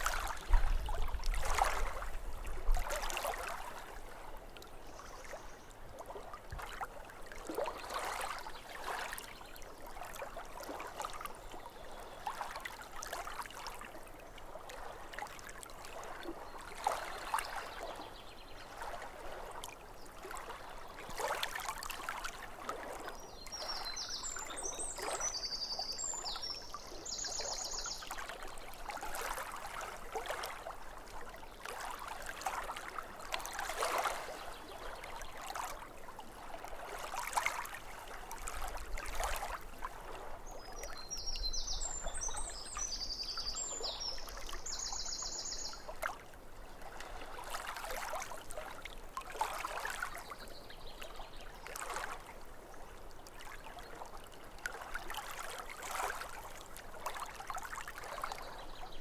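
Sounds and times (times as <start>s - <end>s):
lake water lapping at shore: 0.0s - 59.0s.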